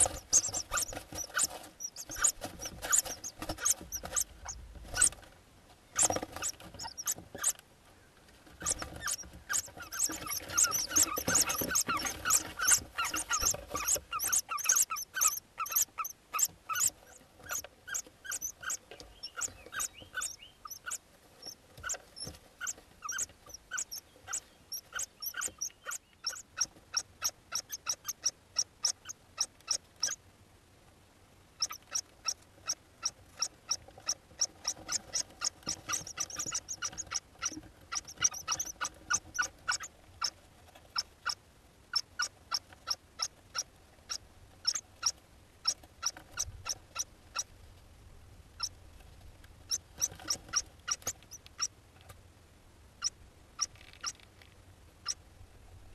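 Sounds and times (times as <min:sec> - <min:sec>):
bird chicks calling: 0:00.0 - 0:05.2, 0:05.9 - 0:07.6, 0:08.6 - 0:30.2, 0:31.6 - 0:40.4, 0:41.0 - 0:47.5, 0:49.7 - 0:51.7.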